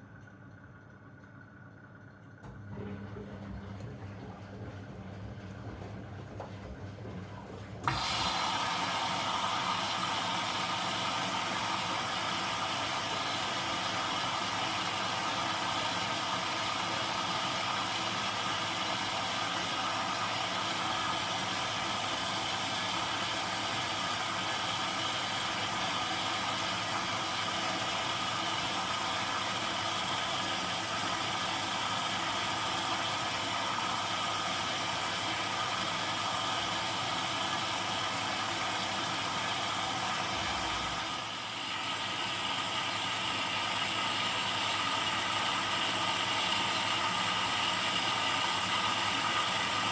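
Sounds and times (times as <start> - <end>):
washing machine humming: 0.0 - 49.9.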